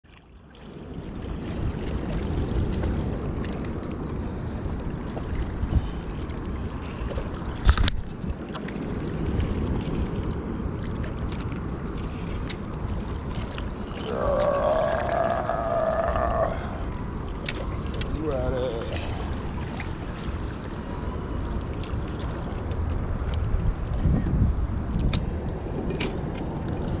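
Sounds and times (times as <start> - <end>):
water lapping on rocks: 0.1 - 23.6
wind buffeting microphone: 0.8 - 27.0.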